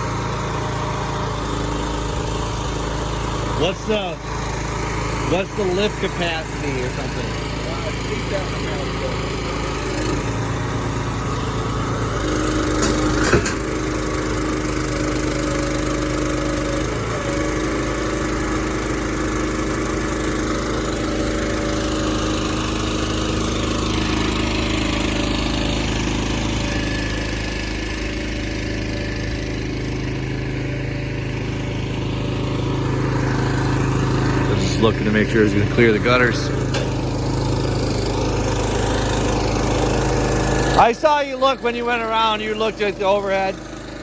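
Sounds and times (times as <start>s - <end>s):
lift machinery humming: 0.0s - 44.0s
truck engine running: 0.0s - 44.0s.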